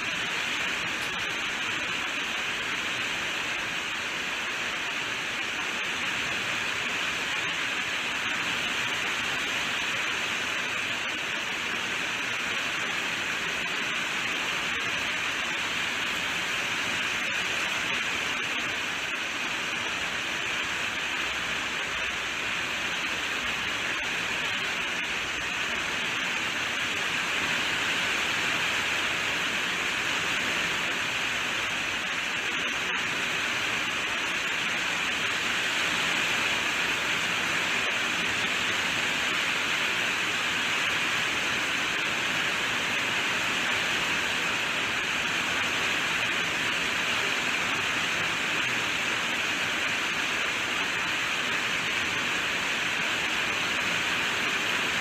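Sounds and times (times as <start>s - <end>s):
heavy rainfall: 0.0s - 55.0s.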